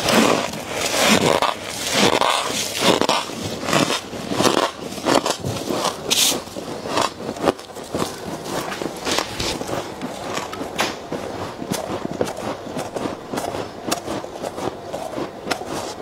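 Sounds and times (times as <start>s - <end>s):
frost crunching being chewed: 0.0s - 16.0s
gloved hands scraping frost: 0.0s - 16.0s.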